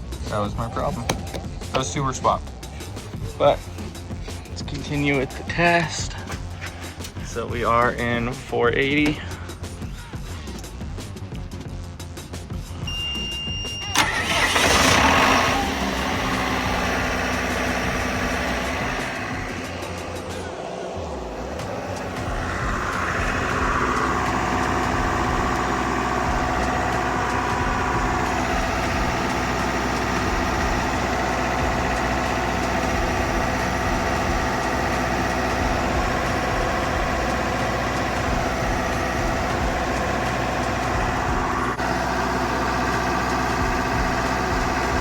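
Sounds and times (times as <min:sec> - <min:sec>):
diesel generator running: 0:00.0 - 0:45.0.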